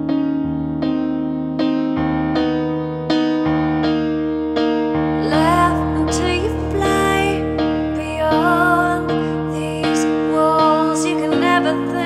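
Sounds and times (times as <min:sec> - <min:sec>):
held keyboard chord: 0:00.0 - 0:12.0.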